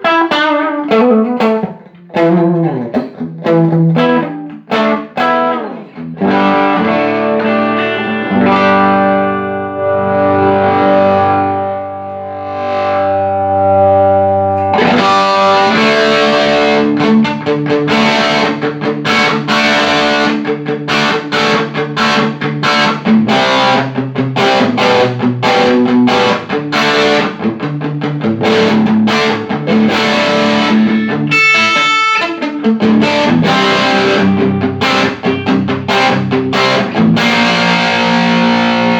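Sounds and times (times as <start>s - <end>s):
electric guitar through amp: 0.0s - 38.9s.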